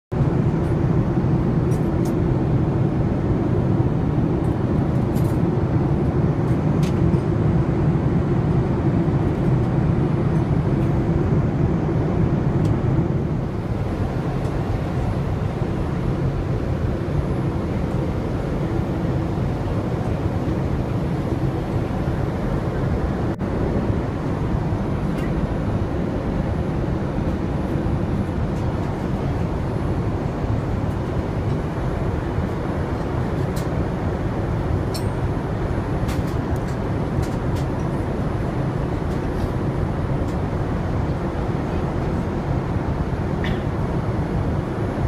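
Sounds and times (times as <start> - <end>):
airplane cabin airflow and engine drone: 0.1 - 45.0.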